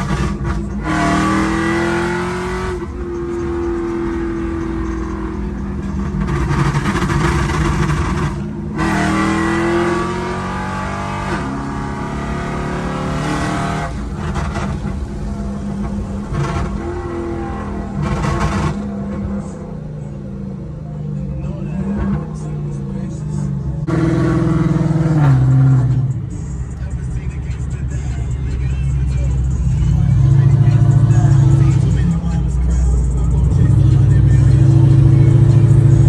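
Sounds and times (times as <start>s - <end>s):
car engine revving under acceleration: 0.0s - 36.0s.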